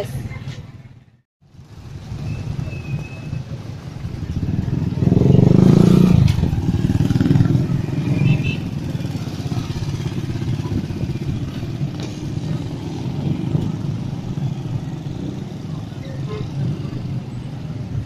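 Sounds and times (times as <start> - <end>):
street traffic: 0.0 - 18.0
small motorcycle engine passing: 1.8 - 17.7.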